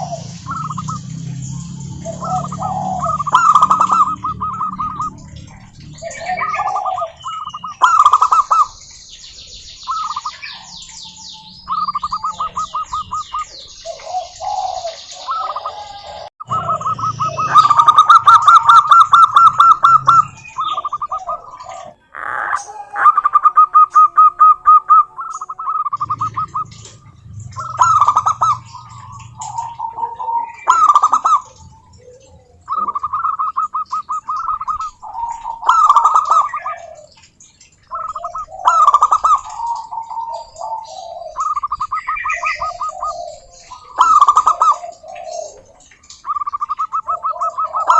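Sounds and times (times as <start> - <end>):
bird chirps and trills: 0.0 - 47.9
doves cooing: 0.0 - 47.9.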